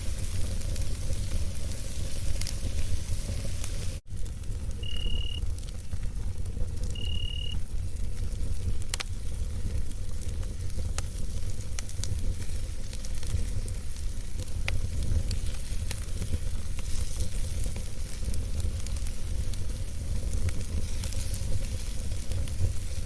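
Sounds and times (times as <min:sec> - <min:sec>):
campfire crackling and popping: 0:00.0 - 0:23.0
low rumble of flames: 0:00.0 - 0:23.0.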